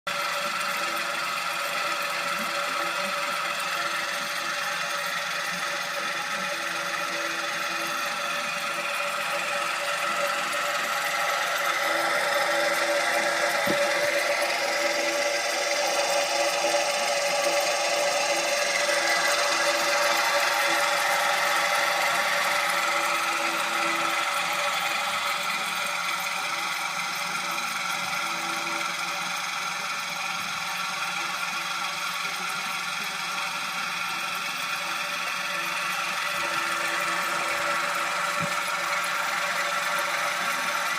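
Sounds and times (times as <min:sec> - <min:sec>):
heater fan whirring: 0:00.1 - 0:40.9.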